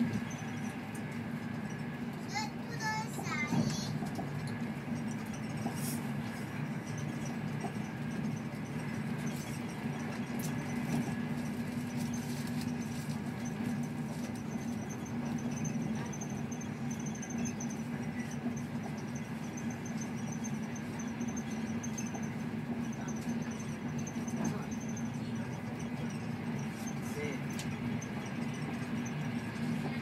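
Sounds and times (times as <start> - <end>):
train interior hum: 0.0 - 30.0.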